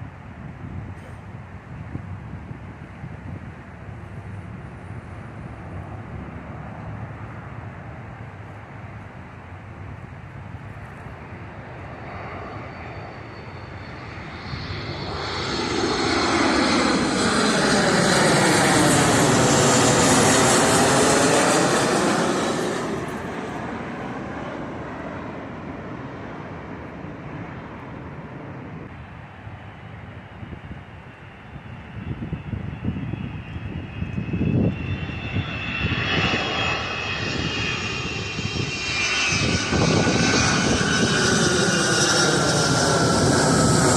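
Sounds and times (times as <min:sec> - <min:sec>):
airplane passing overhead: 0:00.0 - 0:43.9
high engine whine: 0:03.9 - 0:43.9.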